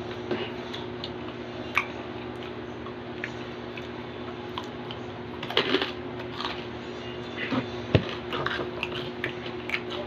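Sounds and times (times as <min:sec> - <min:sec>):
steady low hum: 0:00.0 - 0:10.0
person chewing crunchy food: 0:00.4 - 0:06.8, 0:07.5 - 0:10.0.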